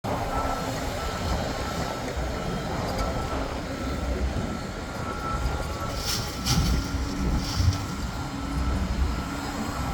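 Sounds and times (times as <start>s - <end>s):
diesel machinery rumbling: 0.0s - 9.9s.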